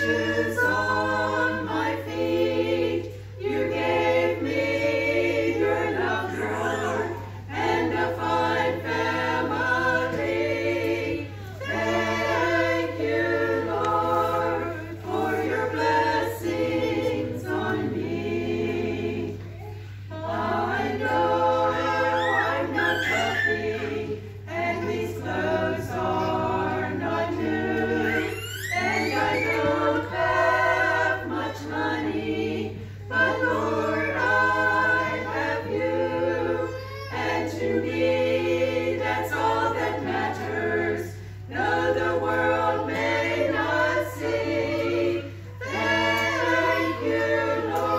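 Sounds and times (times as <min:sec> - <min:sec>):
women's choir singing: 0:00.0 - 0:47.9.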